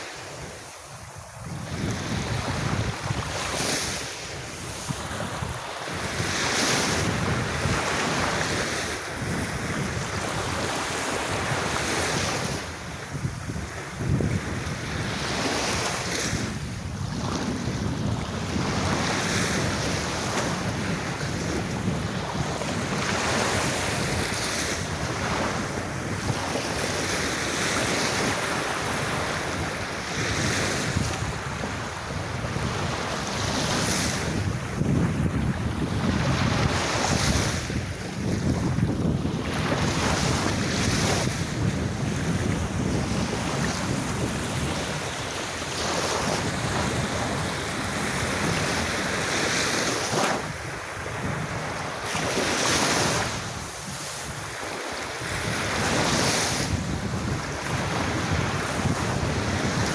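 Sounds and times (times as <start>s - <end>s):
sea waves breaking on beach: 0.0s - 59.9s
wind buffeting microphone: 0.2s - 59.9s.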